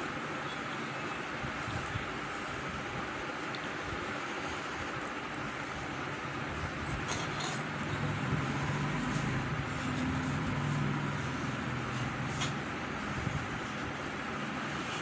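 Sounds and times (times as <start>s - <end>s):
low engine-like hum: 1.4s - 15.0s.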